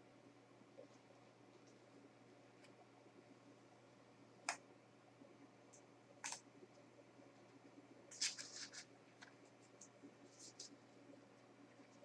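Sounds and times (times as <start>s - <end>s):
quiet low hum: 0.0s - 12.0s.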